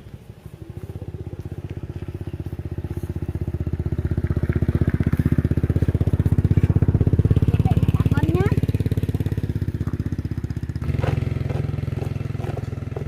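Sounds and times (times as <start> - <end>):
motorbike engine at low revs: 0.0 - 13.0.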